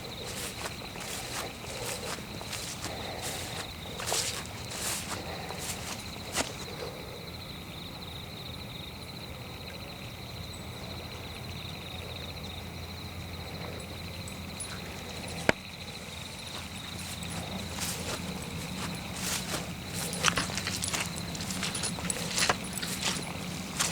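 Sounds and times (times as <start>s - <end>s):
crickets trilling: 0.0s - 23.9s.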